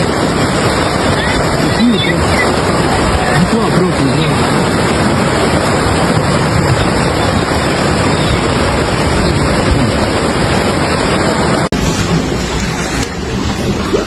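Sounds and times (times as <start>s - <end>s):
fast-flowing floodwater rushing: 0.0s - 14.0s.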